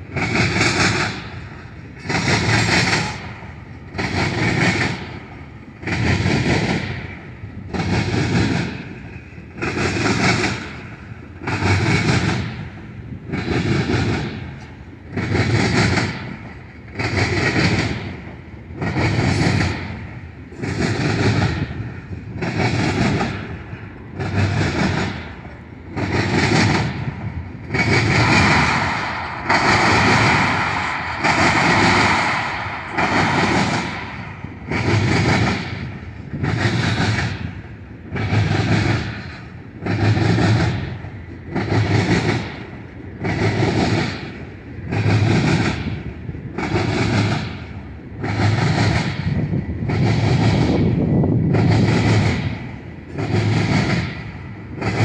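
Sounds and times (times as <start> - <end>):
train wheels clattering on track: 0.0 - 55.0.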